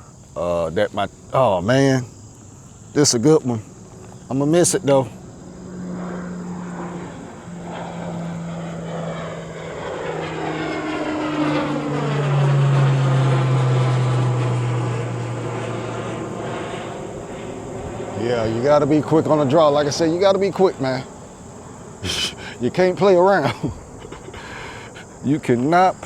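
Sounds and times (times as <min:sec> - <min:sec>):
airplane passing overhead: 0:00.0 - 0:26.0.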